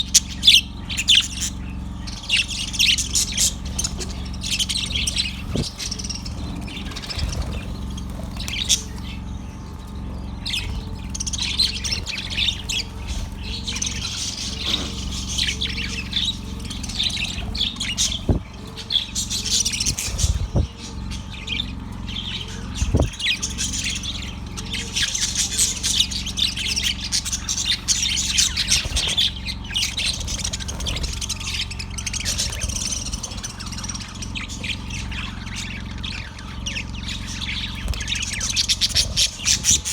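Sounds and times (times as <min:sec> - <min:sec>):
budgerigar chirping and squawking: 0:00.0 - 0:39.9
low background rumble: 0:00.0 - 0:39.9.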